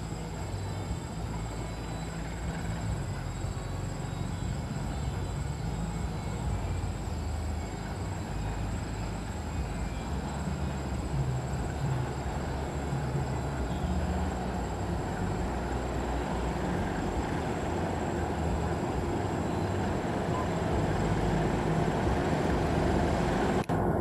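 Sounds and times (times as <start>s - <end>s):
locomotive engine rumbling: 0.0s - 24.0s.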